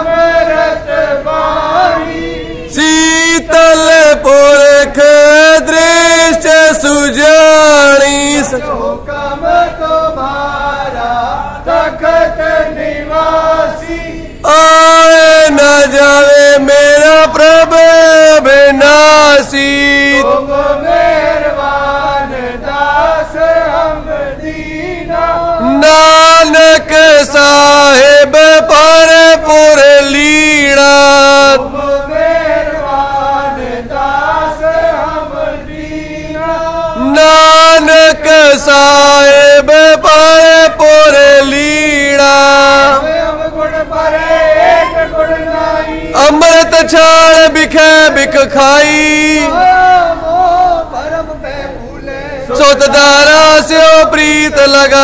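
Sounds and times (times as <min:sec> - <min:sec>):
man chanting: 0:00.0 - 0:55.0.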